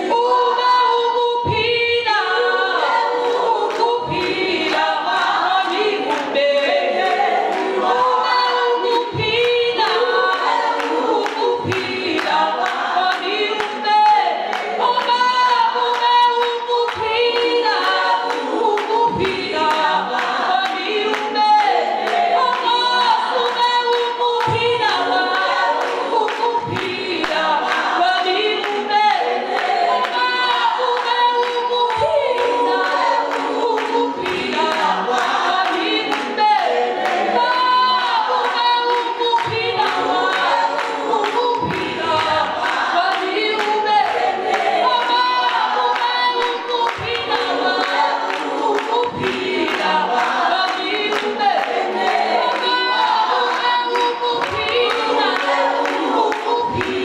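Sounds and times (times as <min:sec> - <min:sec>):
voices singing along: 0:00.0 - 0:57.0
woman singing into microphone: 0:00.0 - 0:57.0.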